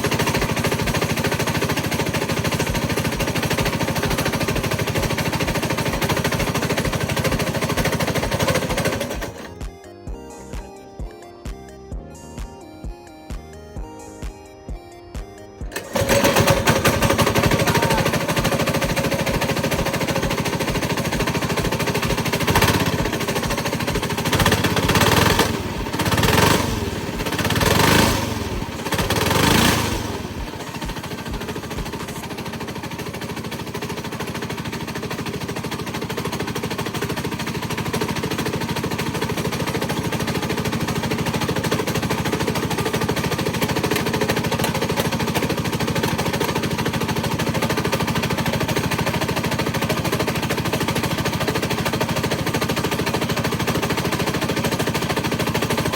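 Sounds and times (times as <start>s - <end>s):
small engine with rattling knock: 0.0s - 9.7s, 15.7s - 55.9s.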